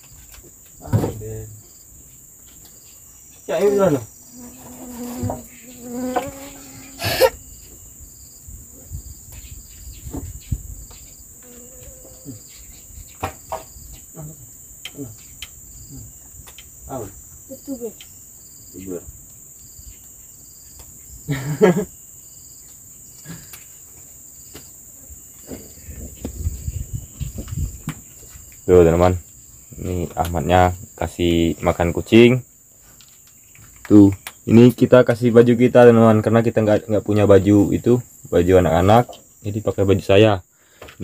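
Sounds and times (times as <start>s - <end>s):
insect chirping in pulses: 0.0s - 41.0s
insects buzzing: 0.0s - 41.0s.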